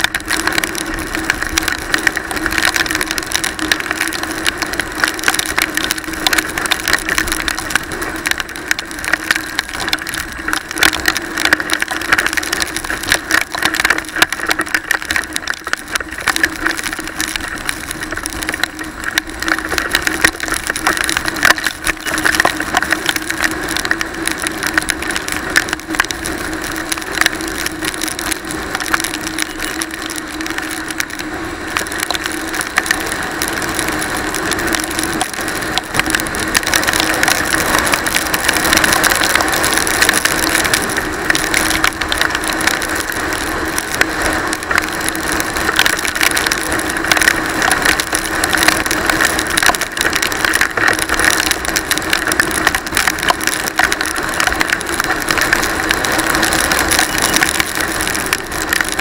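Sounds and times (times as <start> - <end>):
rain and wind on microphone: 0.0 - 59.0.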